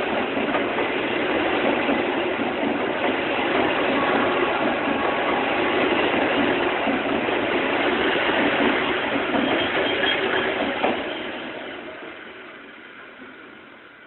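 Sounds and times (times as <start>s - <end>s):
train cars rolling on rails: 0.0s - 14.0s.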